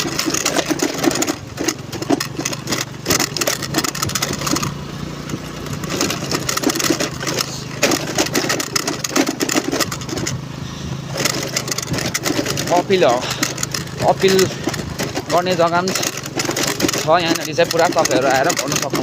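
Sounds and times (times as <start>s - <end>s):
knocks and rattles on rough track: 0.0s - 19.0s
scooter engine running: 0.0s - 19.0s.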